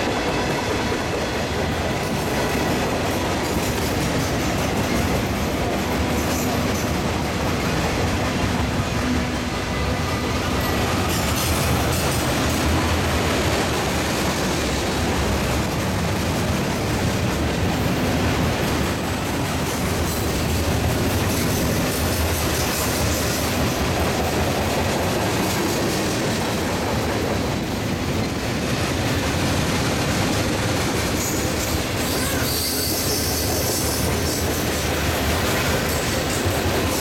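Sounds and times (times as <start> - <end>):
freight train wheels on rails: 0.0 - 37.0.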